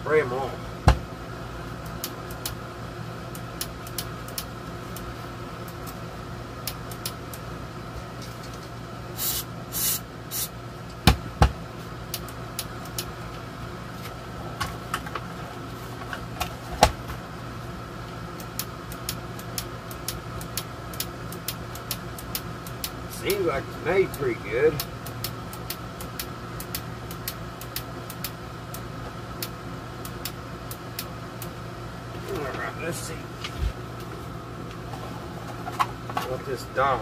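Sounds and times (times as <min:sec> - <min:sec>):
air conditioner humming: 0:00.0 - 0:37.0.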